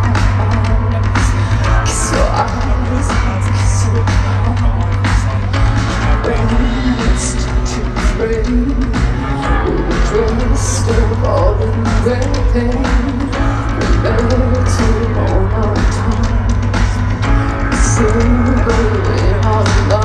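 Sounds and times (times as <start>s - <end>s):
drums: 0.0s - 20.0s
heavy steady bass: 0.0s - 20.0s
live rock band: 0.0s - 20.0s
woman singing: 0.0s - 20.0s.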